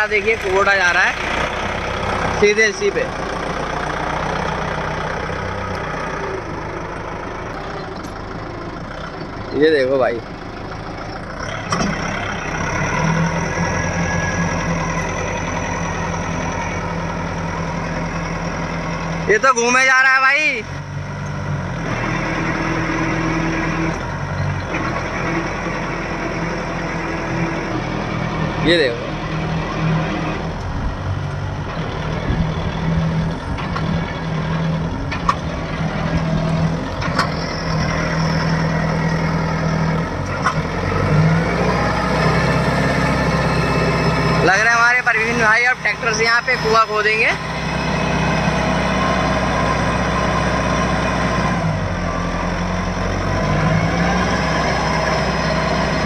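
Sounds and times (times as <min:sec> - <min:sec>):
diesel tractor engine straining: 0:00.0 - 0:56.0.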